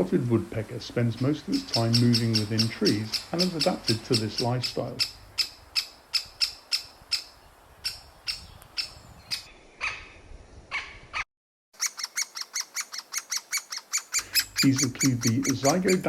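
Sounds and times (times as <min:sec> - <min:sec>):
lower harsh bird calls: 0:01.2 - 0:11.2, 0:11.8 - 0:16.0
woodpecker short sharp calls: 0:01.5 - 0:11.2, 0:11.8 - 0:16.0.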